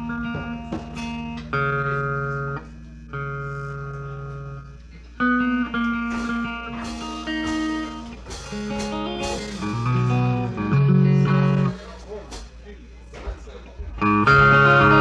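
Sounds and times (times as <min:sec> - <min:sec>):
guitar notes plucked: 0:00.0 - 0:11.8, 0:13.9 - 0:15.0
steady low hum: 0:00.0 - 0:15.0.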